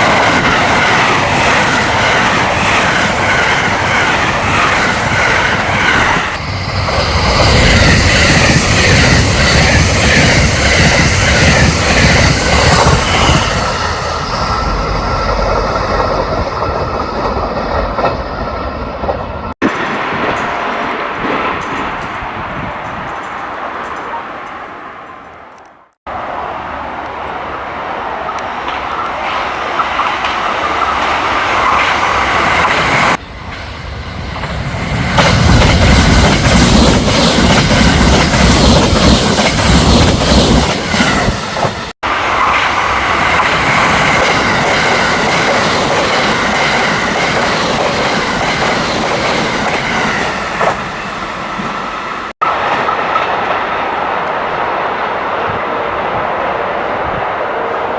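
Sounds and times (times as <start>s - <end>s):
electric train passing at speed: 0.0s - 57.9s.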